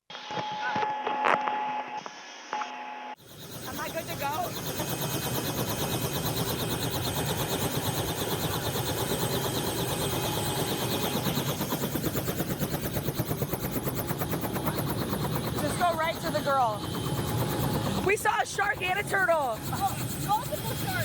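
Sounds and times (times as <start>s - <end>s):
helicopter rotor blades chopping: 3.2s - 21.0s
high helicopter whine: 3.2s - 21.0s.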